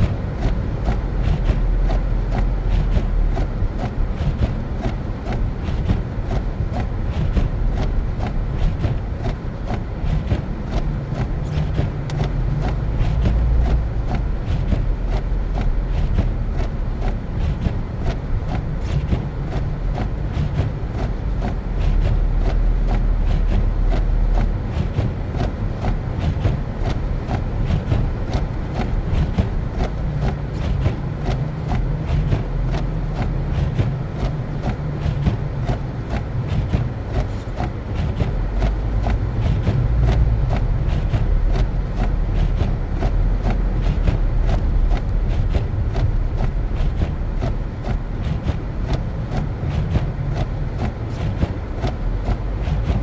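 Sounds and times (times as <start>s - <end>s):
car rumbling on snowy road: 0.0s - 53.0s.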